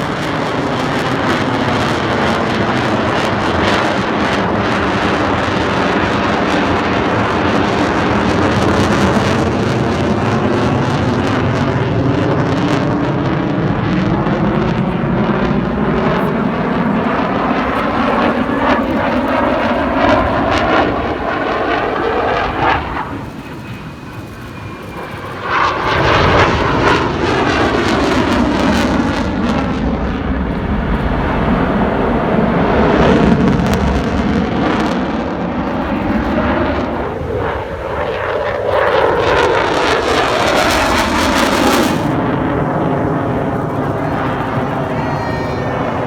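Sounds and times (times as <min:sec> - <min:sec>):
aircraft flying past overhead: 0:00.0 - 0:46.0.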